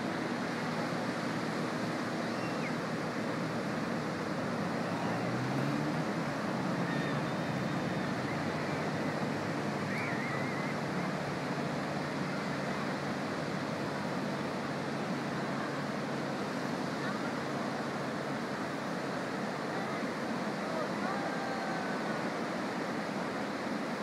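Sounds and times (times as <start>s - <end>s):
waves breaking on a beach: 0.0s - 24.0s.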